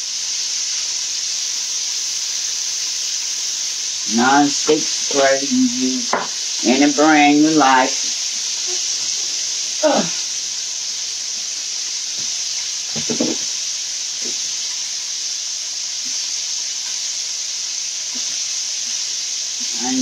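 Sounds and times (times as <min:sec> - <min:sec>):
food frying in hot oil: 0:00.0 - 0:20.0.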